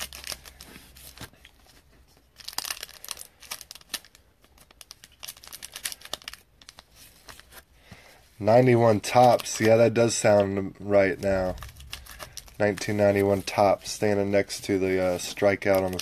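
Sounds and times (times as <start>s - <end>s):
foil wrapper crinkling: 0.0s - 16.0s.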